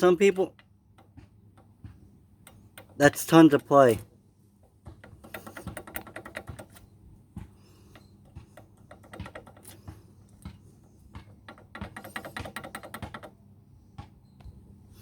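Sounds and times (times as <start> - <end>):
wheel bearing clicking and rattling: 0.0 - 4.0, 4.6 - 13.4.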